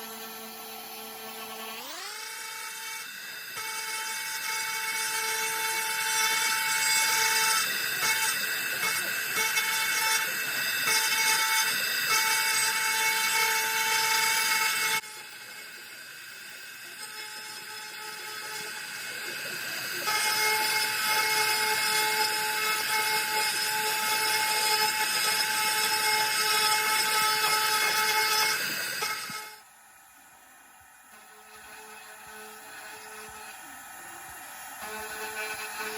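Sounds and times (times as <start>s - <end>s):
router spindle whining cutting wood: 0.0s - 35.9s.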